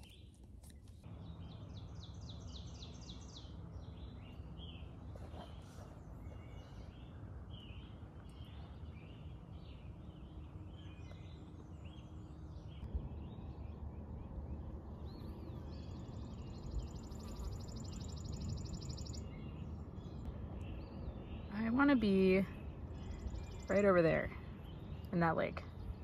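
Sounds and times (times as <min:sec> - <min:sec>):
birds chirping: 0:00.0 - 0:26.0
low steady rumble: 0:00.0 - 0:26.0.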